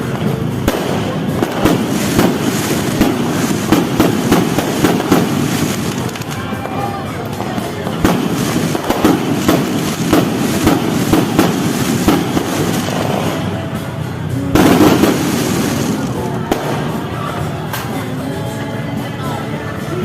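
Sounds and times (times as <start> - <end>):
fireworks banging: 0.0 - 18.1
music: 0.0 - 20.0
voices: 0.0 - 20.0.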